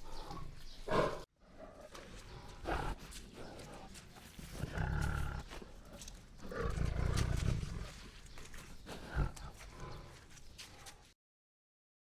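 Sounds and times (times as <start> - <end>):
tiger grunt: 0.0 - 8.1, 8.7 - 10.3
tiger roaring and growling: 0.0 - 10.3.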